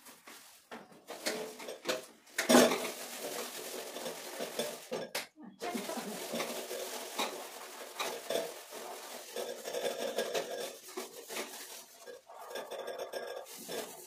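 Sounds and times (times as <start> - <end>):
scrubbing on sheet metal: 0.0 - 14.0.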